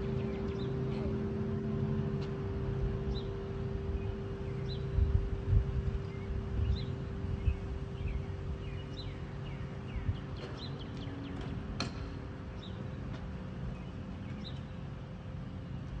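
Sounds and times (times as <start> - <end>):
small birds chirping: 0.0 - 1.2, 3.0 - 16.0
wind rumble: 0.0 - 13.0
distant traffic: 0.0 - 16.0.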